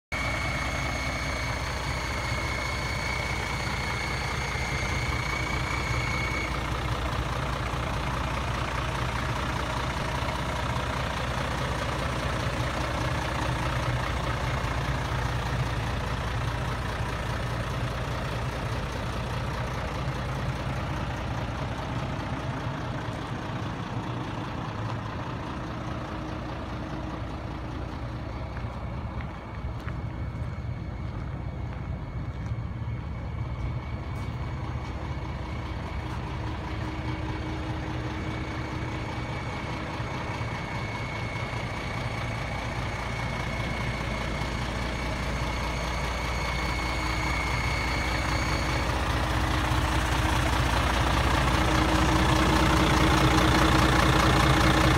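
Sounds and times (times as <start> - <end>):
diesel engine idling: 0.0 - 54.9
steady high-pitched tone: 0.1 - 54.9.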